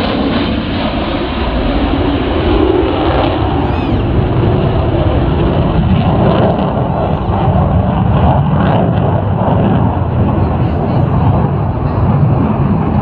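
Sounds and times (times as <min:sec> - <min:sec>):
jet engine roar overhead: 0:00.0 - 0:13.0.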